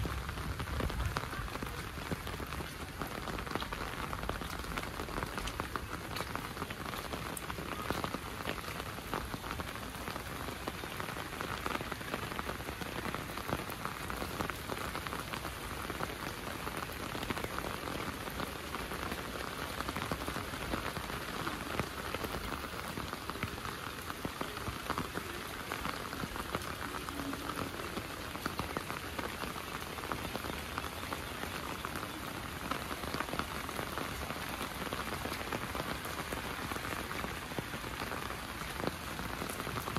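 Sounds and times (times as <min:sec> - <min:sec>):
rain falling: 0:00.0 - 0:39.9
raindrops ticking on surfaces: 0:00.0 - 0:39.9.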